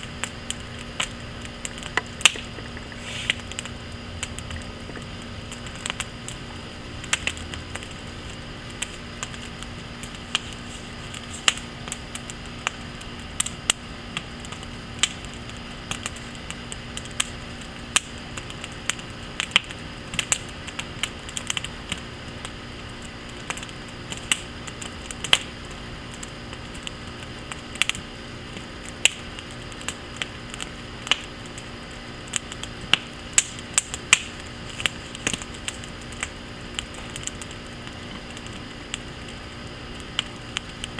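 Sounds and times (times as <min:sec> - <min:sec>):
low fire hiss: 0:00.0 - 0:40.9
wood fire crackling and popping: 0:00.0 - 0:40.9.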